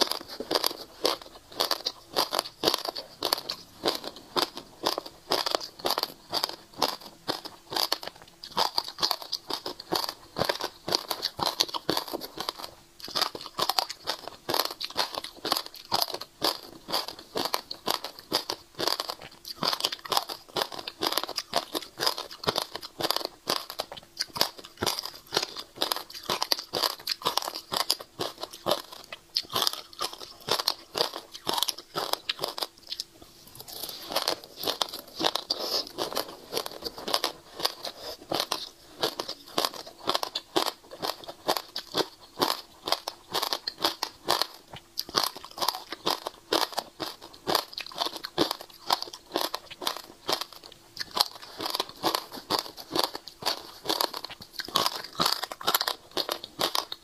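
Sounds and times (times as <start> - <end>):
crunching and chewing seeds: 0.0 - 57.0.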